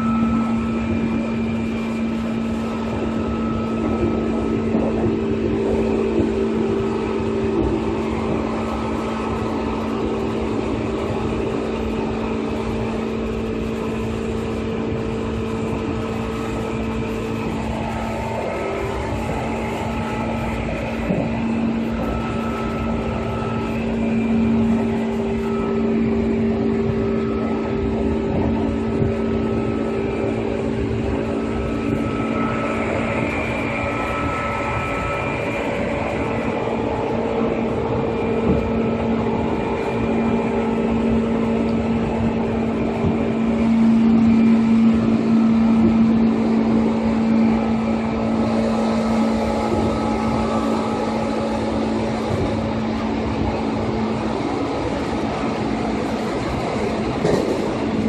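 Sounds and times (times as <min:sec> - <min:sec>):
higher train tones: 0:00.0 - 0:58.0
steady low hum: 0:00.0 - 0:58.0
train wheels rumbling on rail: 0:00.0 - 0:58.0.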